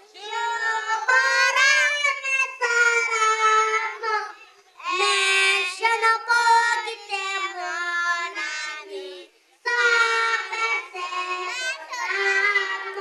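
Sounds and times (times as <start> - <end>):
children singing into microphones: 0.0 - 13.0.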